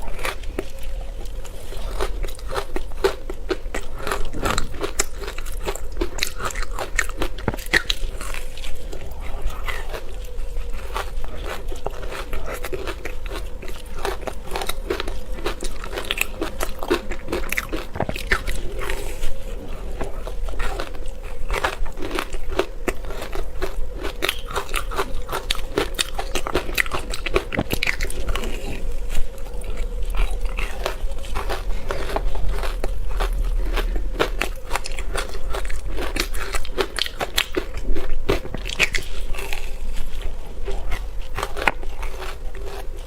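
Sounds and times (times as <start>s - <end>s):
person crunching ice: 0.0s - 29.0s, 30.0s - 43.0s.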